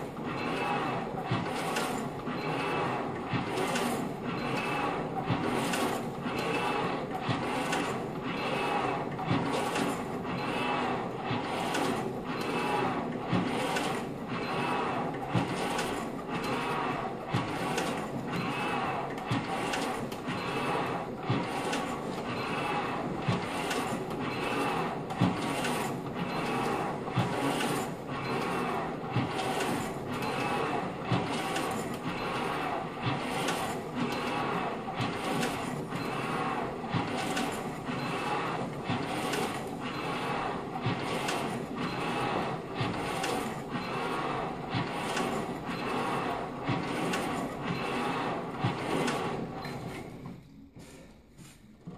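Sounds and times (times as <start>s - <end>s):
ergometer flywheel whirring: 0.0s - 50.1s.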